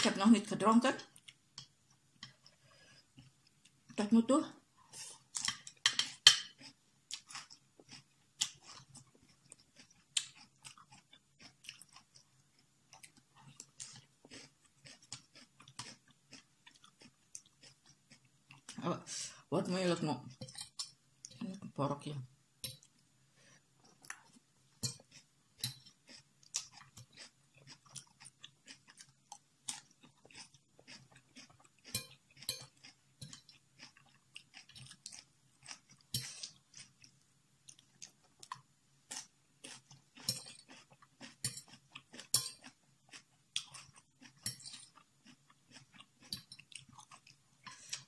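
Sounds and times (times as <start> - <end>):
person chewing crunchy food: 5.0 - 18.8, 22.7 - 48.0.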